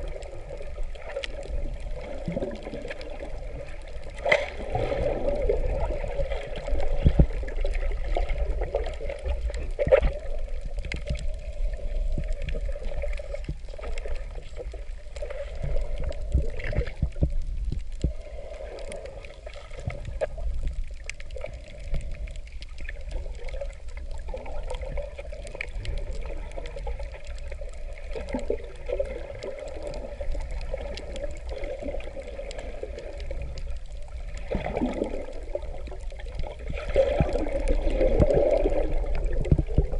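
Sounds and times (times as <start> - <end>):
steady low rumble: 0.0 - 34.4
underwater gurgling and sloshing: 0.0 - 39.9.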